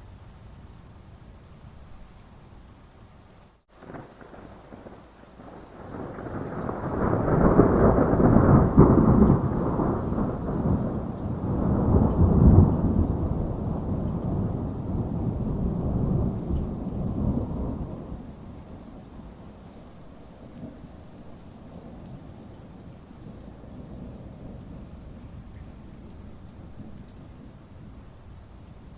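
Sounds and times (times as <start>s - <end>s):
steady rain: 0.0s - 28.9s
rolling thunder: 3.8s - 28.0s.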